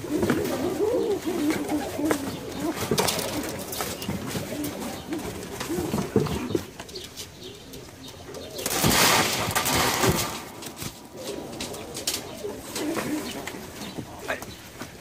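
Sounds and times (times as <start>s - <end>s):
wings flapping: 0.0s - 6.9s, 8.4s - 14.5s
pigeons cooing: 0.0s - 15.0s.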